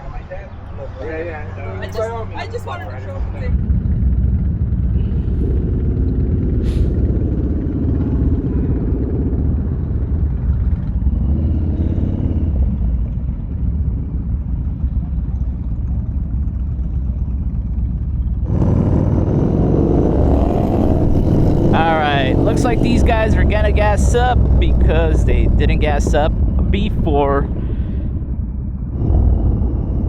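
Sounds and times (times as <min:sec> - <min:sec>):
motorcycle engine running: 0:01.8 - 0:30.0
wind rumble on microphone: 0:03.2 - 0:30.0.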